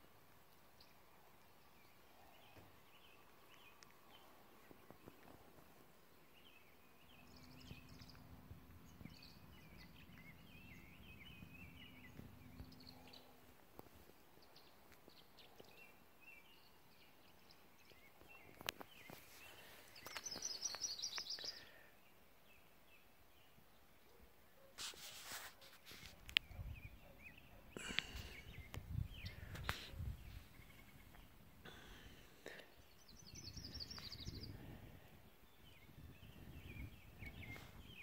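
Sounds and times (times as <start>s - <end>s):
birds chirping: 0.2s - 38.0s.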